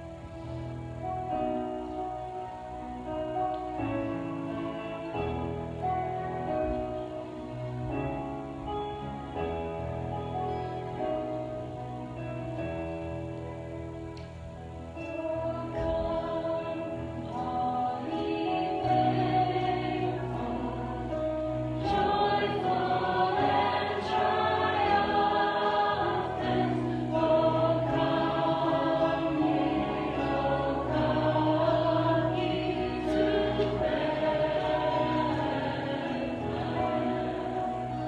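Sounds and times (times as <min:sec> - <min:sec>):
congregation singing a hymn: 0:00.0 - 0:38.0.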